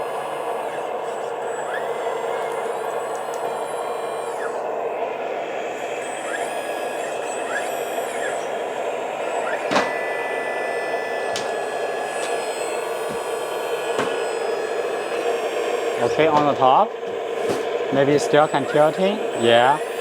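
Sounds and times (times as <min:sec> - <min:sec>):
sharp clicks: 0:00.0 - 0:04.7, 0:05.8 - 0:20.0
hydraulic whine: 0:00.0 - 0:20.0.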